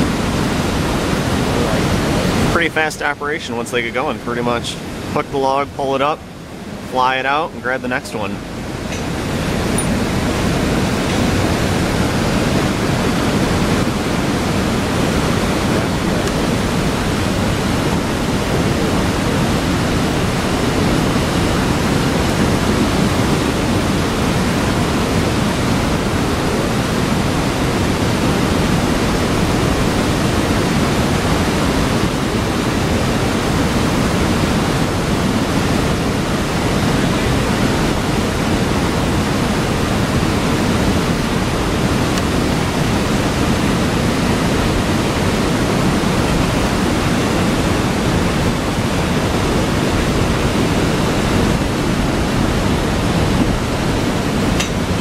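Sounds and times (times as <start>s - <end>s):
water rushing through spillway: 0.0s - 55.0s.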